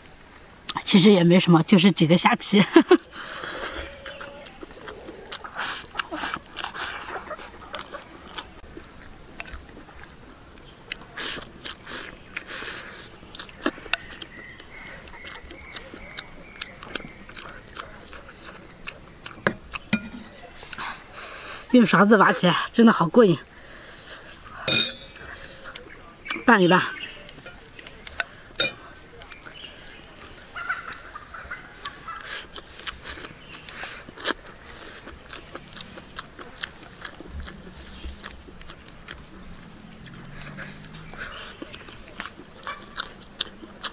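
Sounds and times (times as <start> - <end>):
high-pitched insect drone: 0.0 - 43.9
eating noises: 3.0 - 43.9.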